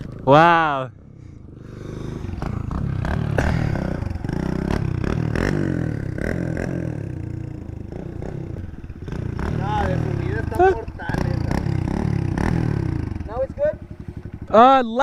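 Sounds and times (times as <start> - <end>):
small engine revving: 1.4 - 14.6.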